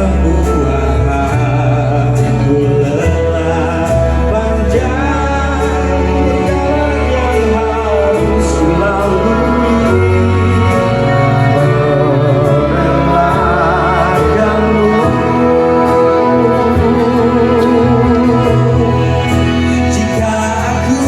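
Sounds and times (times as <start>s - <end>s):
pop ballad music: 0.0s - 21.0s.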